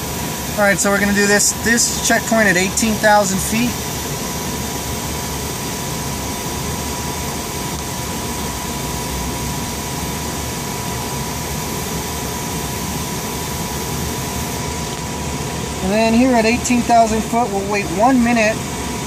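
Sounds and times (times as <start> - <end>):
machine hum and hiss: 0.0 - 19.0
thin steady whine: 0.0 - 19.0.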